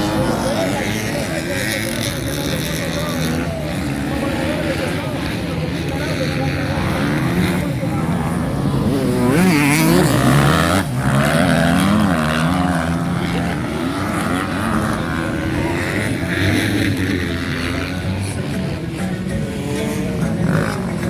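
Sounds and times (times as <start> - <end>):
motorcycle engines racing: 0.0 - 21.0.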